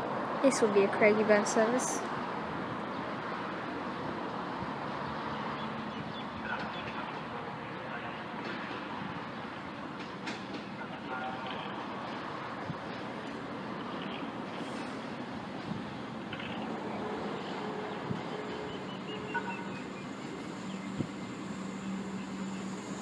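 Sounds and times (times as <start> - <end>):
electric train rumbling: 1.8 - 23.0.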